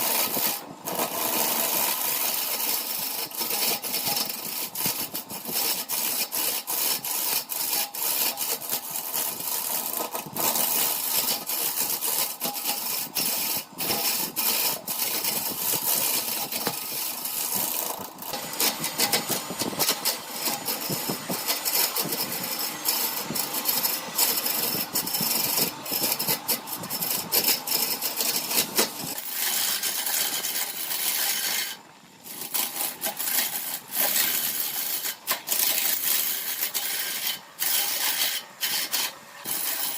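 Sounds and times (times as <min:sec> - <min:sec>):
tool scraping spinning wood: 0:00.0 - 0:39.9
wood lathe running: 0:00.0 - 0:39.9.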